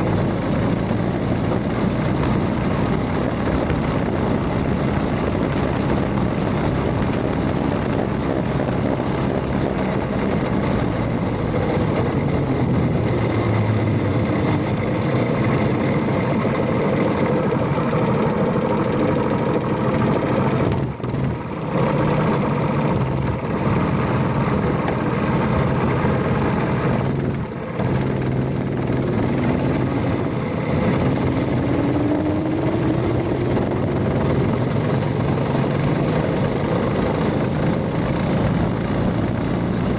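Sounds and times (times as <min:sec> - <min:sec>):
mini bike engine running hard: 0:00.0 - 0:39.9.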